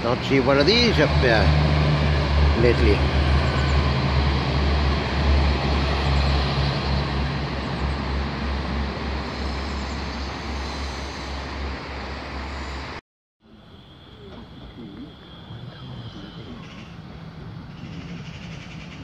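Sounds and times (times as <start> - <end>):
train engine drone: 0.0 - 19.0
train wheel and rail rumble: 0.0 - 19.0.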